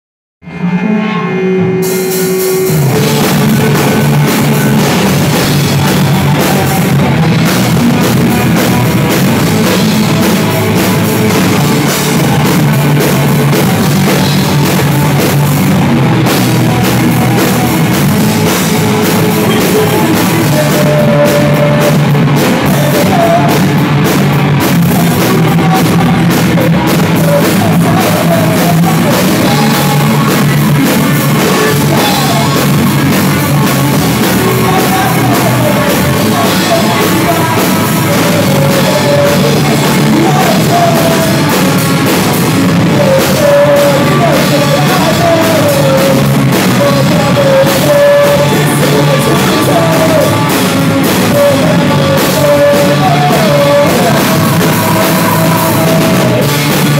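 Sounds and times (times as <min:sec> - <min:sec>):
drum kit: 0:00.4 - 0:56.9
electric bass: 0:00.4 - 0:56.9
electric guitar: 0:00.4 - 0:56.9.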